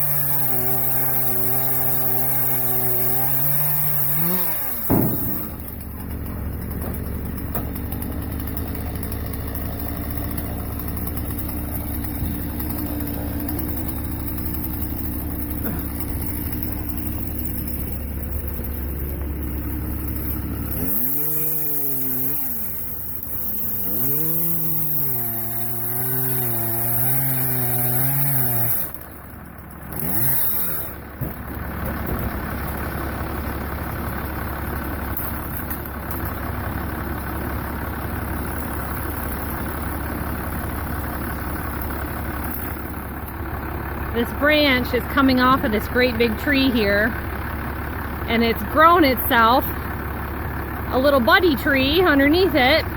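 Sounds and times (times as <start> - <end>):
diesel engine idling and revving: 0.0 - 52.9.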